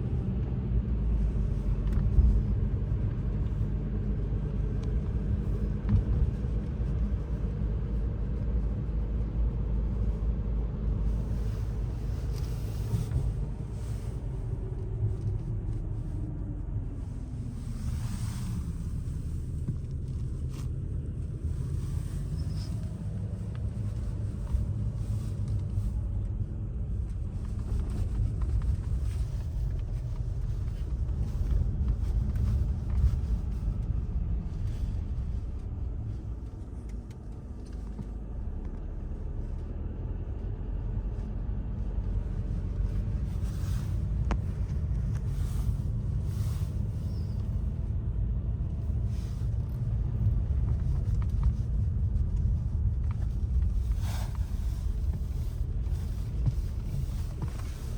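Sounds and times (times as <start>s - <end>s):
vehicle rumbling on road: 0.0s - 57.9s.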